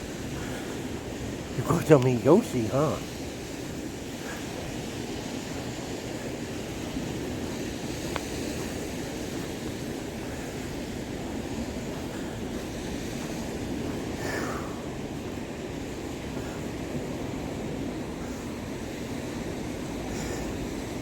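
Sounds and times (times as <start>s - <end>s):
gentle surf: 0.0s - 21.0s
wind: 0.0s - 21.0s.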